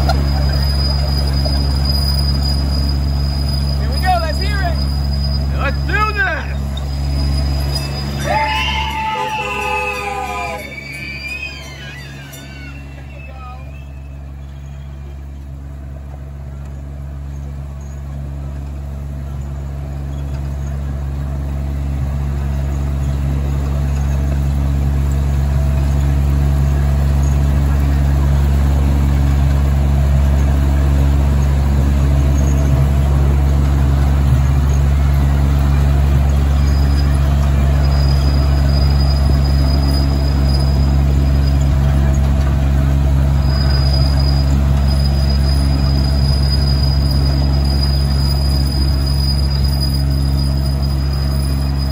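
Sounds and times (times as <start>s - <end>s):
miniature train low drone: 0.0s - 51.9s.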